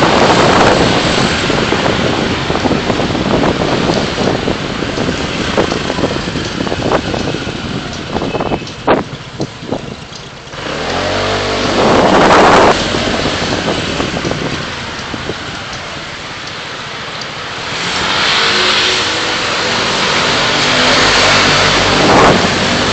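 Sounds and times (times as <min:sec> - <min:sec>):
loud rushing sound: 0:00.0 - 0:09.8, 0:10.5 - 0:22.9
road and traffic noise: 0:00.0 - 0:22.9.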